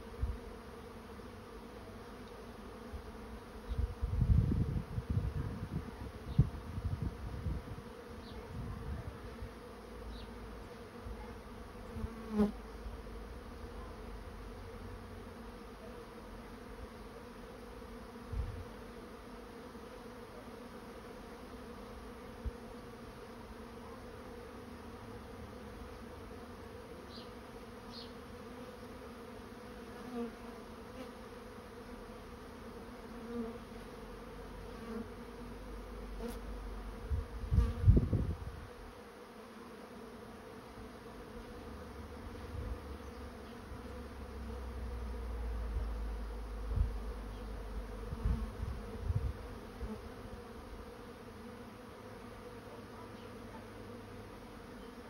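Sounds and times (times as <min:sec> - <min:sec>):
bee swarm buzzing: 0:00.0 - 0:55.0
single bees buzzing past: 0:00.0 - 0:55.0.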